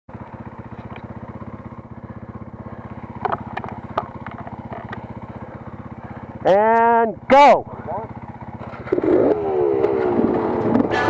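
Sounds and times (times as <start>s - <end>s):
dirt bike engines idling: 0.1s - 11.0s.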